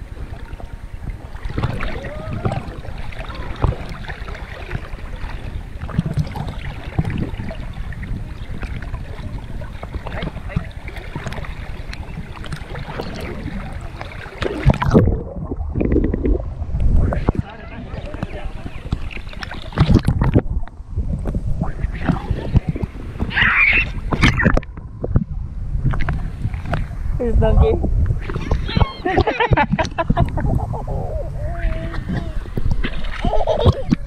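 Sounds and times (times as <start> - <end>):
muffled underwater sound: 0.0 - 34.0
pool water splashing and lapping: 0.0 - 34.0.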